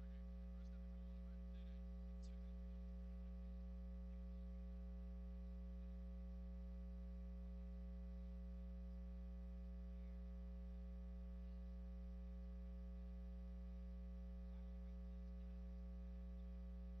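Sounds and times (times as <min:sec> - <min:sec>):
faint electrical mains hum: 0:00.0 - 0:17.0.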